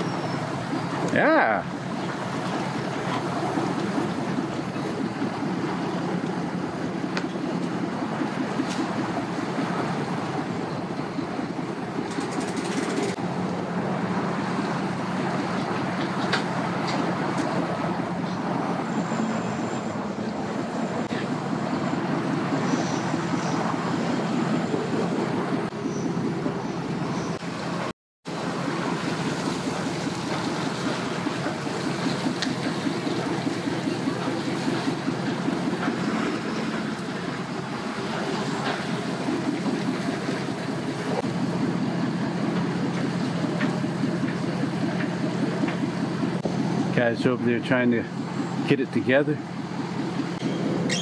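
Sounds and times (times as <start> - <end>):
truck engine running: 0.0 - 51.0
water streaming off hull: 0.0 - 51.0.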